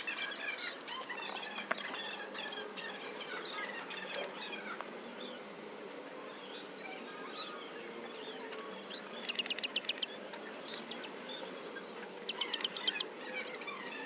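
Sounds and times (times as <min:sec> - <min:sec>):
small birds chirping: 0:00.0 - 0:14.0
steady background hiss: 0:00.0 - 0:14.0.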